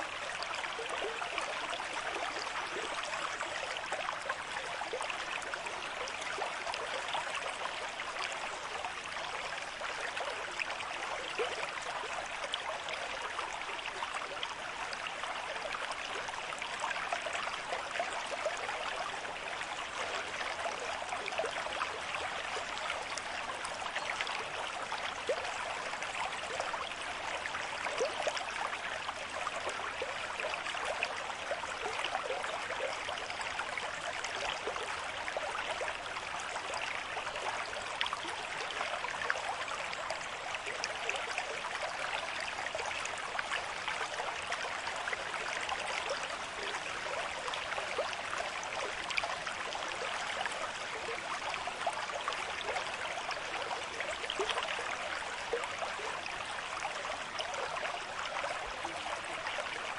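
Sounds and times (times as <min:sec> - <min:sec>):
small water splashes and gurgles: 0:00.0 - 0:59.9.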